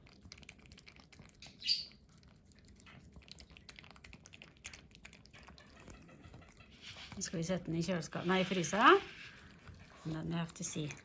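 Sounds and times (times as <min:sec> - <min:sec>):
dog licking and smacking: 0:00.0 - 0:11.0.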